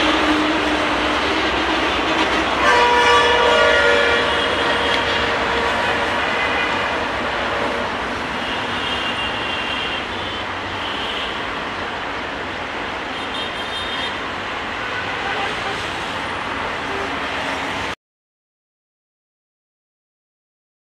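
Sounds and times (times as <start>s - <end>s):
distant diesel train rumble: 0.0s - 18.0s
traffic noise: 0.0s - 18.0s.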